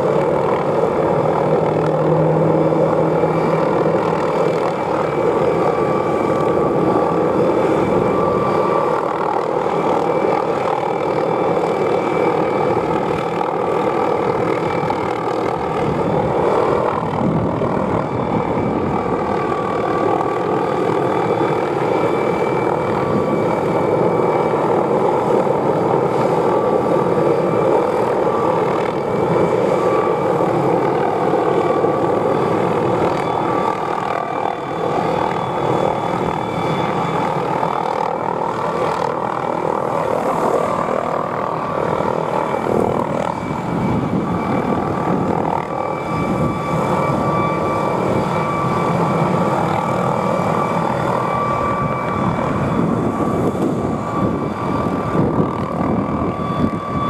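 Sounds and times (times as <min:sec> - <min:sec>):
helicopter flying: 0:00.0 - 0:57.0
high turbine whine: 0:00.0 - 0:57.0.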